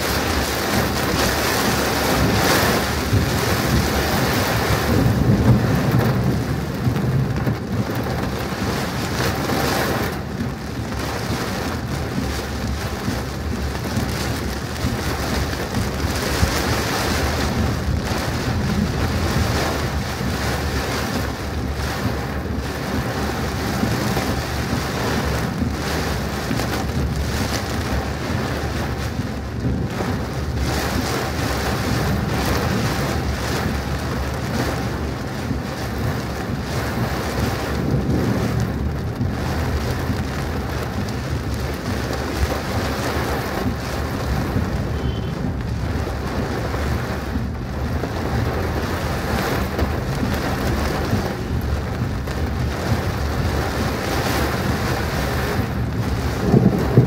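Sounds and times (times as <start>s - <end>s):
car and road rumble: 0.0s - 57.0s
heavy rain on a car: 0.0s - 57.0s.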